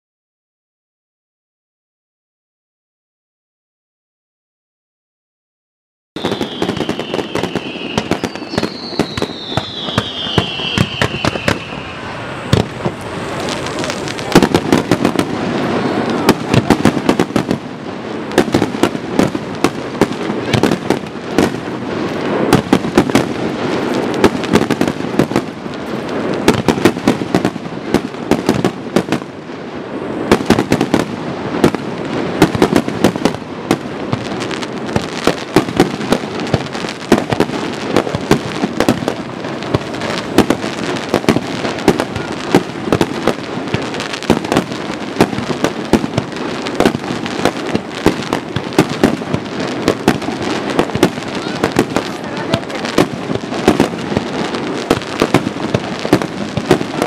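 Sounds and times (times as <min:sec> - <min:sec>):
fireworks bangs and crackles: 0:06.2 - 0:57.0.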